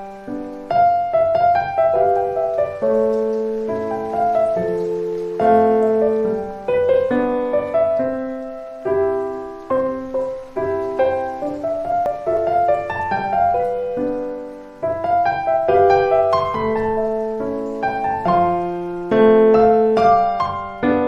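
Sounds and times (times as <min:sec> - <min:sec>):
slow solo piano: 0:00.0 - 0:21.0.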